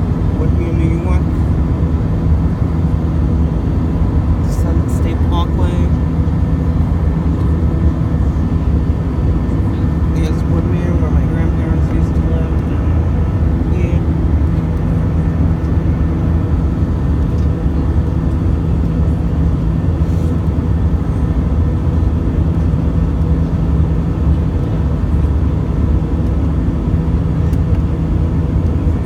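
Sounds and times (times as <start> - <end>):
jet engine drone in cabin: 0.0 - 29.0.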